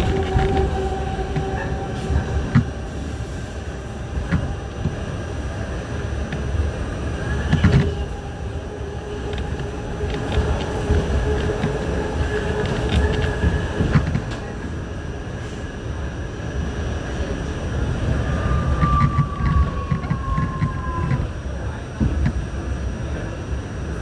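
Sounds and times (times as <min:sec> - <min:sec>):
subway wheels rumbling on rail: 0:00.0 - 0:24.0.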